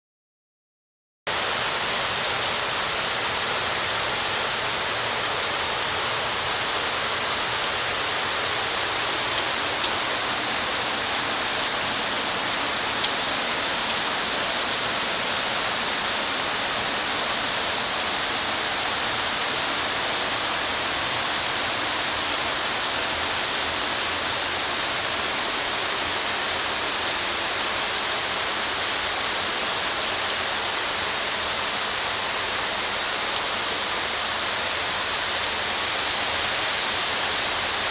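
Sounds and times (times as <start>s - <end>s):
heavy rain pouring: 1.3s - 37.9s.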